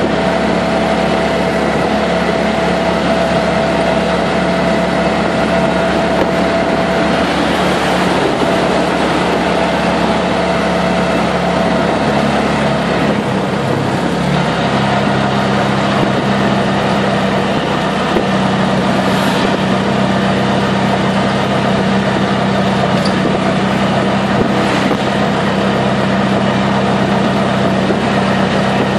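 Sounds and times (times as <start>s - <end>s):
auto-rickshaw engine running: 0.0s - 28.9s
road and wind noise: 0.0s - 28.9s.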